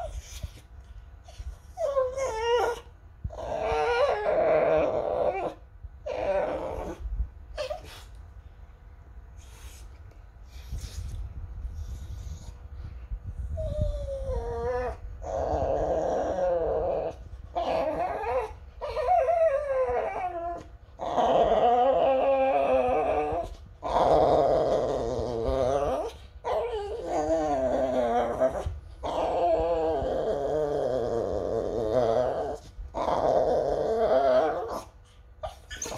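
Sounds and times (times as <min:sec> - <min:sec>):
dog howling and whining: 0:00.0 - 0:00.6, 0:01.3 - 0:08.1, 0:13.5 - 0:35.9.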